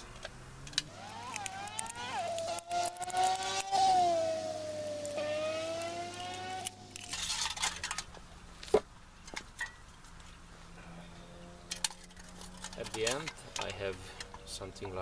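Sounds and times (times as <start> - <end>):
engine droning: 0.0 - 7.8, 10.6 - 15.0.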